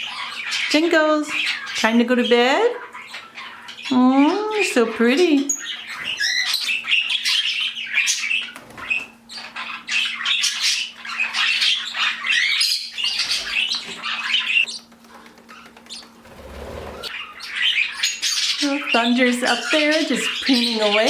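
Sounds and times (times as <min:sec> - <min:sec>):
parrots chattering and squawking: 0:00.0 - 0:21.0.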